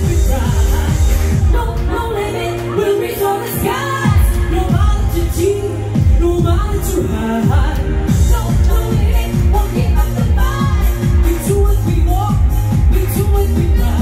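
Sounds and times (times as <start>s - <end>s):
live pop band playing: 0.0s - 14.0s
person singing: 0.0s - 14.0s.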